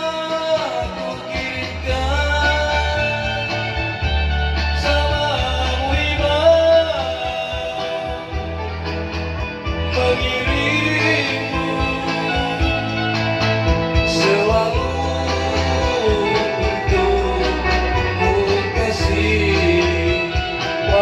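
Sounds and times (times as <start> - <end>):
man singing: 0.0 - 8.8, 9.8 - 21.0
backing music with bass line: 0.0 - 21.0.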